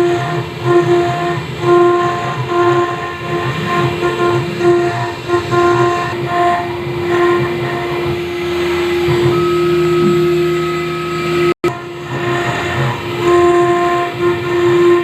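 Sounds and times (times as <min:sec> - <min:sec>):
axis motors shifting tones: 0:00.0 - 0:15.0
router spindle hum and whine: 0:00.0 - 0:15.0.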